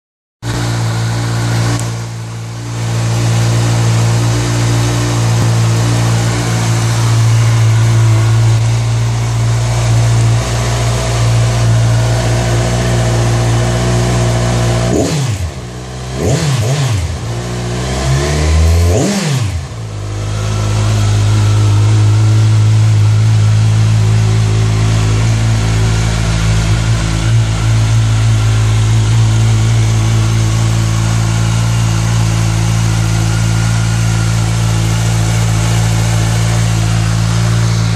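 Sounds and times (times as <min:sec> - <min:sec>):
motorcycle engine idling and revving: 0:00.4 - 0:37.9.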